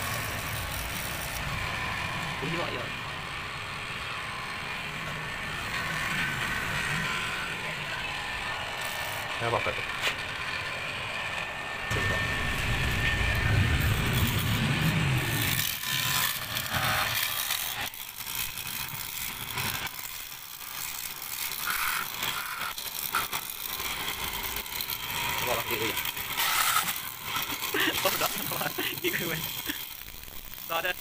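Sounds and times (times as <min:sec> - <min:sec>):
motor blower rumbling: 0:00.0 - 0:19.9, 0:21.6 - 0:31.0.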